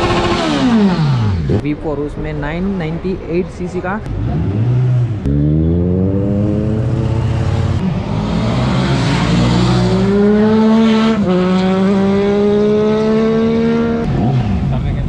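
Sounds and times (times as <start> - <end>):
motorcycle engine accelerating: 0.0 - 1.6, 4.1 - 15.0.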